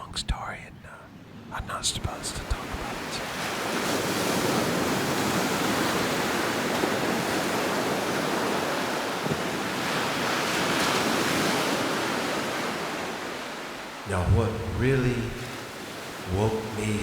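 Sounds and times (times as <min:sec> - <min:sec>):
waves breaking on beach: 0:02.2 - 0:17.0.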